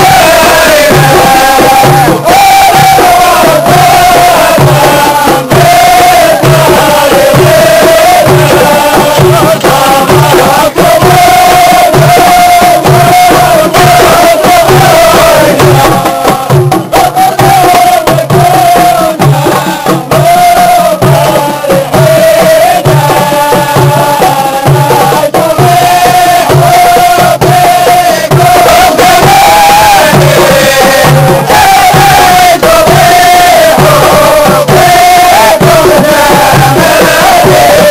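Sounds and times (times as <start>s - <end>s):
frame drums beating: 0.0s - 37.9s
men chanting in unison: 0.0s - 37.9s.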